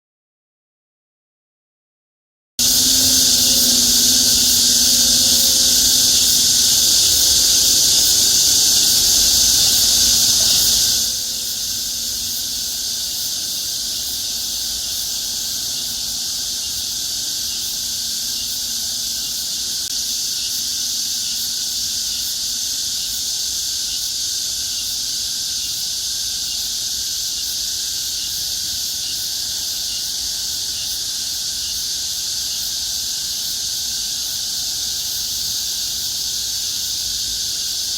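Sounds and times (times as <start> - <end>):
cicada chorus: 2.6 - 37.9.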